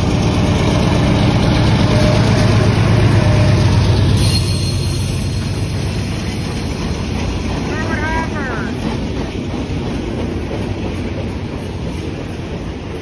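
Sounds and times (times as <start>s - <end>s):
diesel locomotive engine: 0.0s - 13.0s
freight cars rolling: 0.0s - 13.0s.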